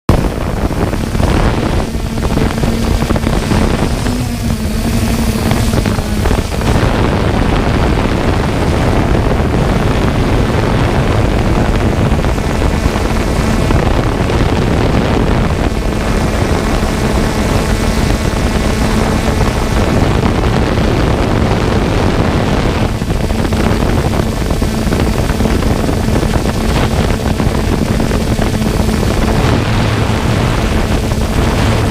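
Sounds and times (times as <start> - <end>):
propeller wash and wind noise: 0.0 - 31.9
quadcopter propellers humming: 0.0 - 31.9.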